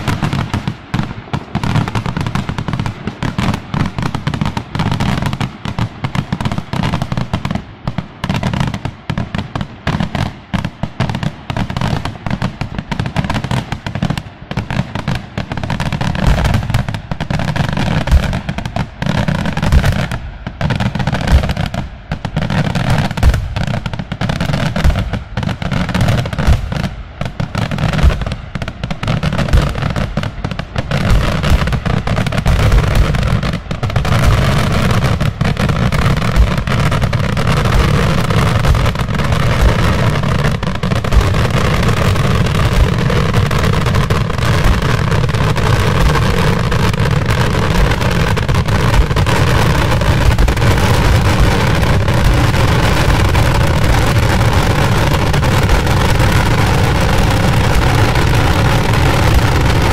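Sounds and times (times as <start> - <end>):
fireworks banging rapidly: 0.0 - 59.9.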